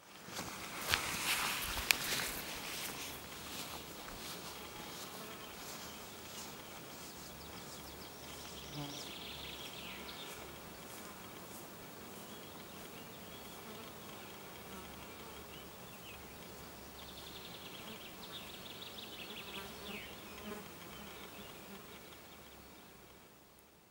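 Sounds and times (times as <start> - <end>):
flying insects buzzing: 0.1 - 23.2.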